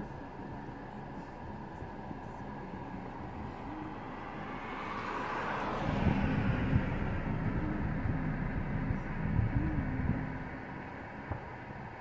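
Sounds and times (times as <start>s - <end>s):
loud low rumble: 0.0s - 12.0s
vehicle passing close by: 1.2s - 12.0s.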